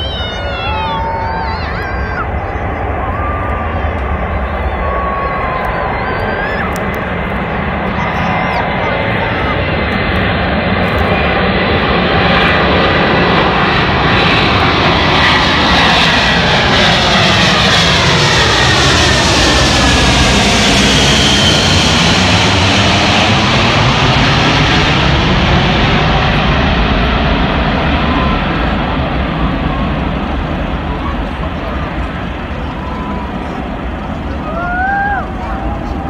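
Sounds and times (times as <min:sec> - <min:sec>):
jet aircraft flying overhead: 0:00.0 - 0:36.0.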